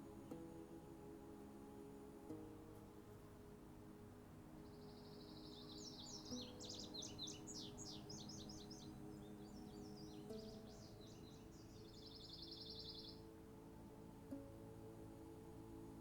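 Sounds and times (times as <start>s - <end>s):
soft sustained music: 0.0s - 16.0s
songbird singing: 0.0s - 16.0s.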